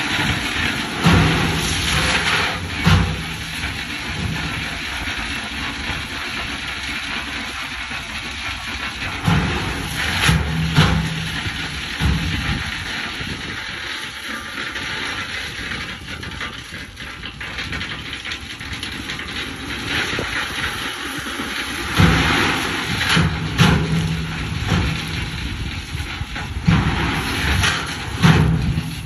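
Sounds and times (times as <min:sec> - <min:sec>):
diesel engine running: 0:00.0 - 0:29.0
gravel pouring: 0:00.0 - 0:29.0.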